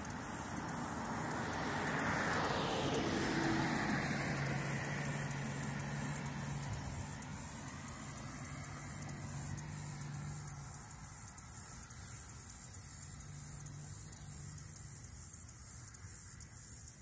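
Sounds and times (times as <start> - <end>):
road vehicle passing: 0.0 - 16.8
steady low hum: 0.0 - 17.0.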